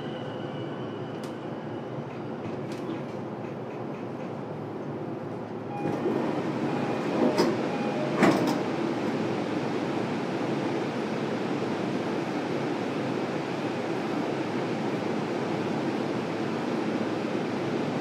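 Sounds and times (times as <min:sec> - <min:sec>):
station and train noise: 0:00.0 - 0:18.0.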